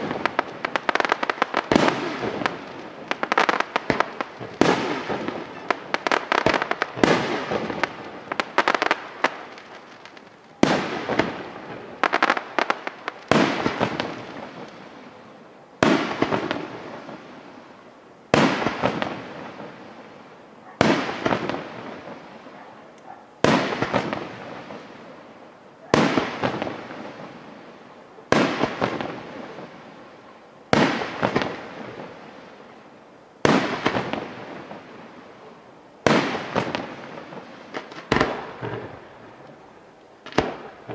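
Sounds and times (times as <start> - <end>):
firework crackle: 0.0 - 22.6, 23.3 - 40.9.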